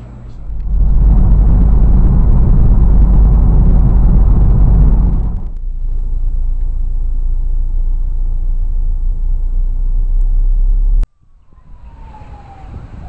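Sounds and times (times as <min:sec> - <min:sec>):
loud low rumble: 0:00.0 - 0:11.1
faint tone falling in pitch: 0:00.3 - 0:12.7.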